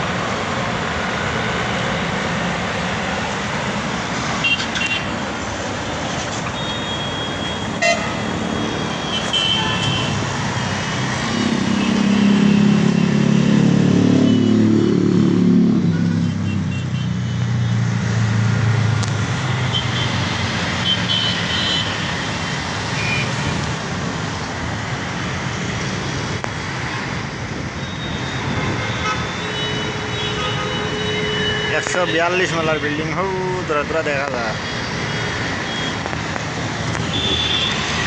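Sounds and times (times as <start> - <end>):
highway traffic noise: 0.0 - 38.0.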